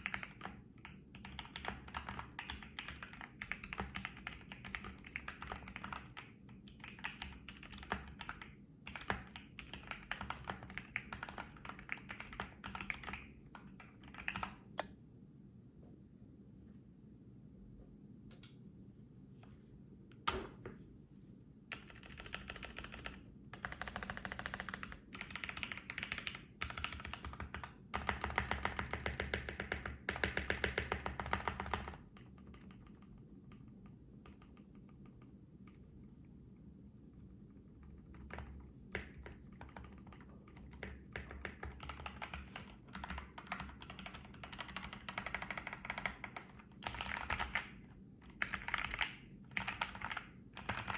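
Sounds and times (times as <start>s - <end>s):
mechanical keyboard typing: 0.0s - 14.8s, 21.7s - 35.3s, 37.8s - 50.9s.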